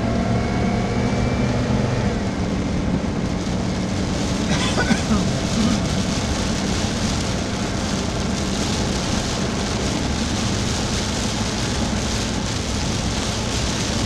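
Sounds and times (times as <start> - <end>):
heavy rain on a car roof: 0.0 - 14.0
tyres on a wet road: 0.0 - 14.0.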